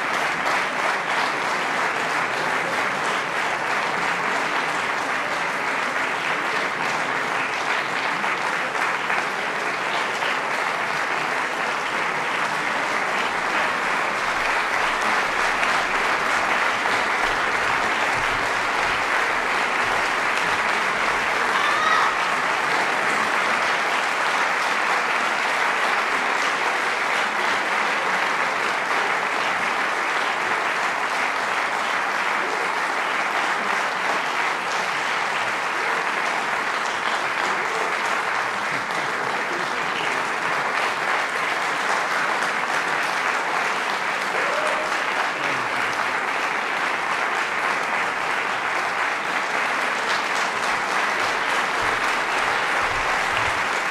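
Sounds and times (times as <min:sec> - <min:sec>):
audience applauding: 0:00.0 - 0:53.9.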